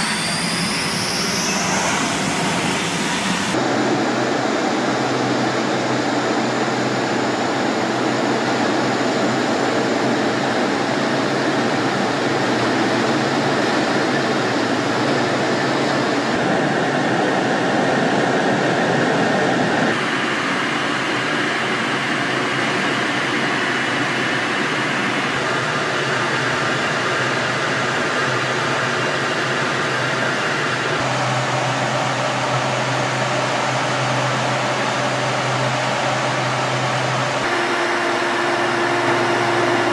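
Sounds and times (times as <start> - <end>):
jet cockpit roar: 0.0 - 39.9.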